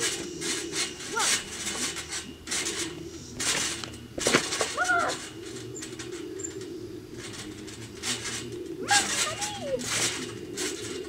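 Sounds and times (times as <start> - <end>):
trampoline springs rustling and thudding: 0.0 - 11.0.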